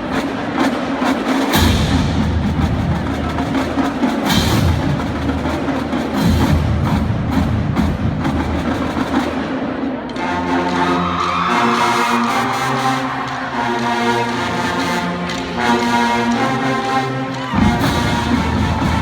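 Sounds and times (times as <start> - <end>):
rapid snare drum strokes: 0.0 - 19.0.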